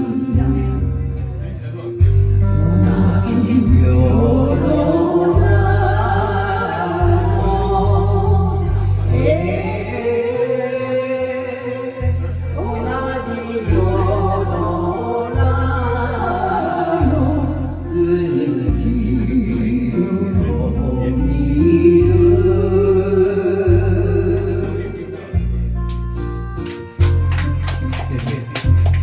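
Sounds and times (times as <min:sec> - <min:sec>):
bass line: 0:00.0 - 0:11.2, 0:11.9 - 0:29.0
group of voices singing: 0:00.0 - 0:25.5.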